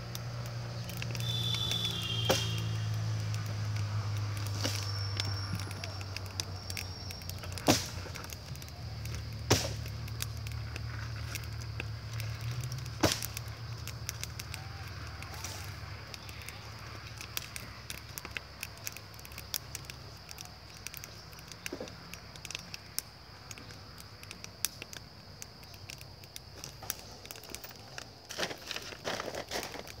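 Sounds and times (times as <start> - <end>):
sharp cracks: 0.0 - 30.0
wood fire crackling and popping: 0.0 - 30.0.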